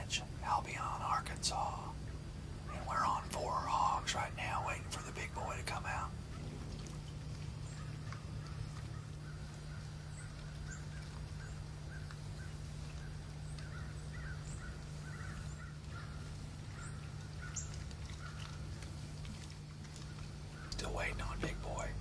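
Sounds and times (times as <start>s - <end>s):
birds calling: 0.0s - 22.0s
steady low hum: 0.0s - 22.0s.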